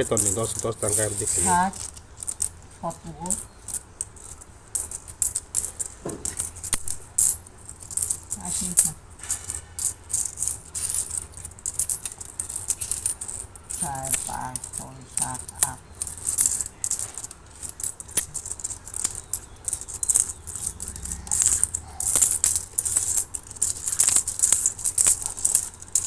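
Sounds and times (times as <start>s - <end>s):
coins clinking and scraping: 0.0s - 26.0s.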